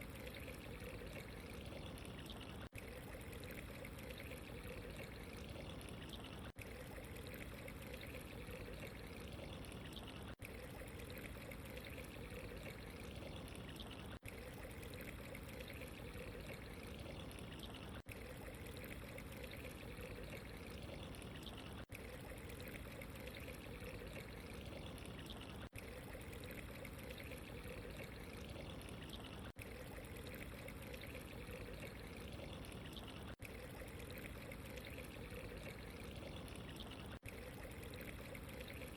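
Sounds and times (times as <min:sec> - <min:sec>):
trickling running water: 0:00.0 - 0:38.9.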